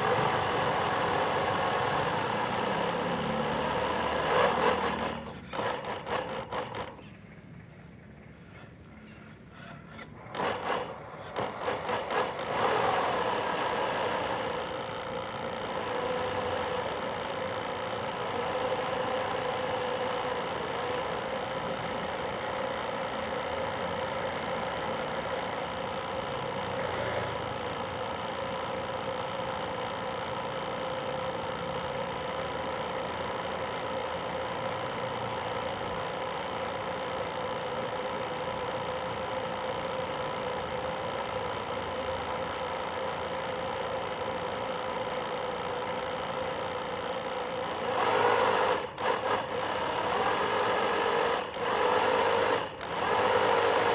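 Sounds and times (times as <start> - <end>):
electric motor whine: 0.0 - 7.3, 8.3 - 53.9.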